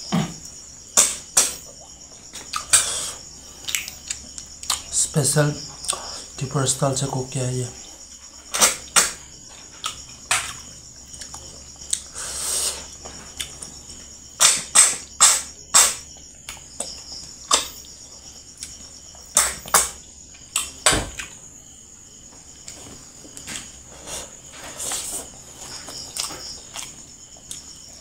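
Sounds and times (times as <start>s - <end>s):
man chewing food: 0.0s - 4.9s, 8.0s - 21.4s, 22.0s - 28.0s
crickets trilling: 0.0s - 28.0s.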